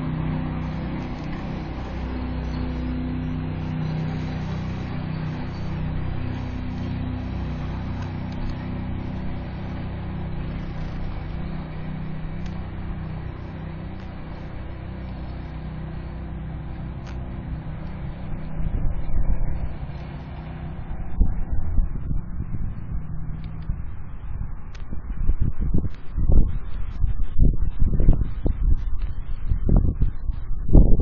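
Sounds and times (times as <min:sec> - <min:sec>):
motor engine humming: 0:00.0 - 0:30.8.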